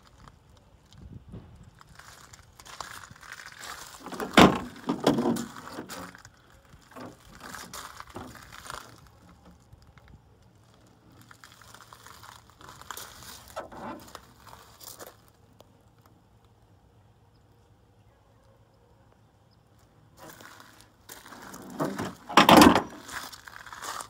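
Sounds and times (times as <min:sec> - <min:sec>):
rustles and clicks: 0:00.0 - 0:16.1, 0:20.2 - 0:24.0.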